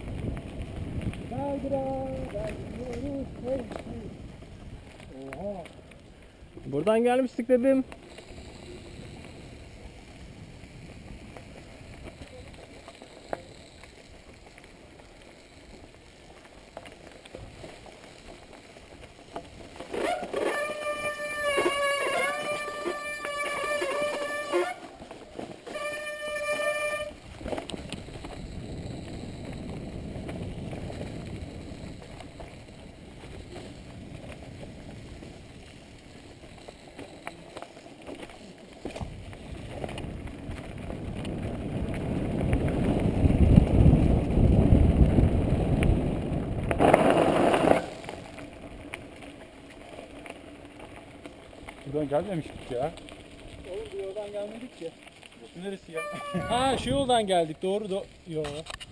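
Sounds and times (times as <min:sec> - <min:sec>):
wind and riding noise: 0:00.0 - 0:58.9.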